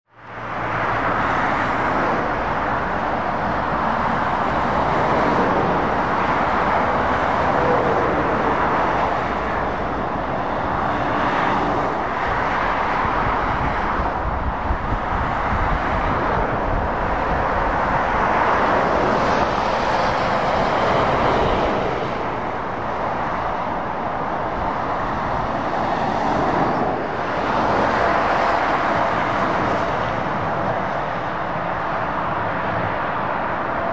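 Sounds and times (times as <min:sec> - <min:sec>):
diesel engines rumbling: 0:00.2 - 0:33.9.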